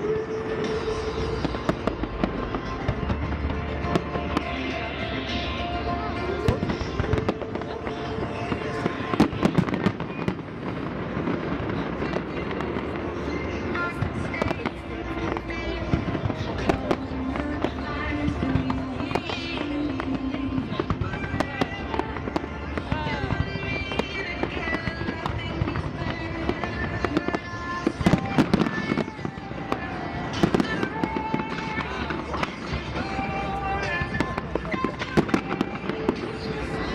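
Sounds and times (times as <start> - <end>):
fireworks bangs and pops: 0.0 - 36.9.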